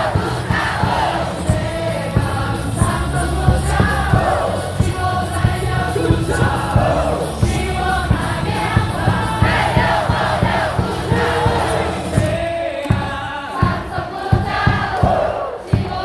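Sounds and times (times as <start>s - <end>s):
drum hits or claps: 0.0s - 16.0s
loud amplified music: 0.0s - 16.0s
stadium crowd singing: 0.0s - 16.0s.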